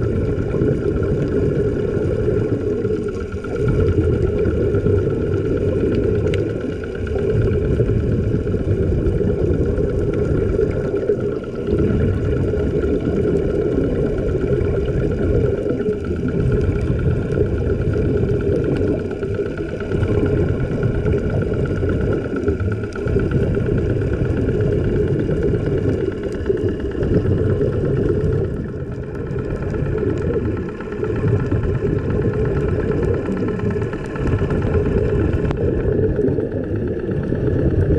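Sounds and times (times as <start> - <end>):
faint steady tones: 0.0 - 37.9
low underwater rumble: 0.0 - 37.9.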